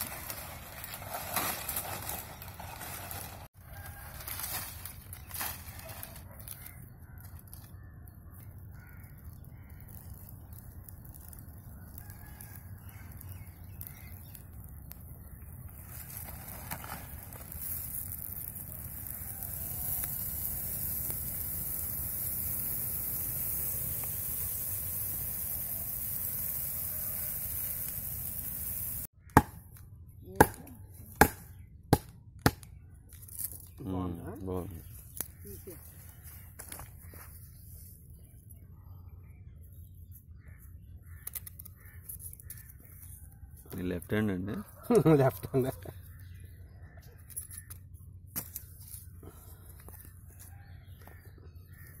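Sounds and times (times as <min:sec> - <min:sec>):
dry palm fronds burning: 0:00.0 - 0:29.5, 0:31.2 - 0:38.4, 0:39.3 - 0:46.4, 0:47.2 - 0:52.0.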